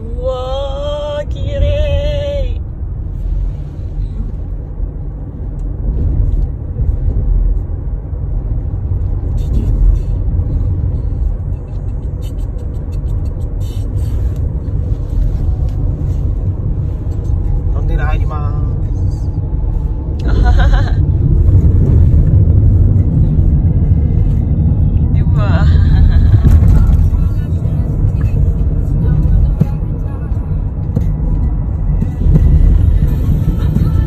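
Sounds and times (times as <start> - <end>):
car cabin road rumble: 0.0 - 34.0.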